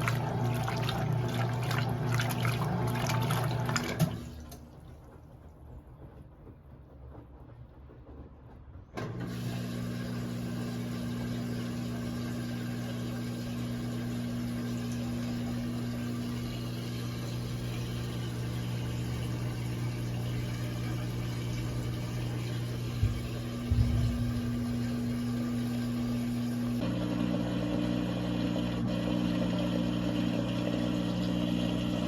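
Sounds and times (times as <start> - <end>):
washing machine electric hum: 0.0 - 32.0.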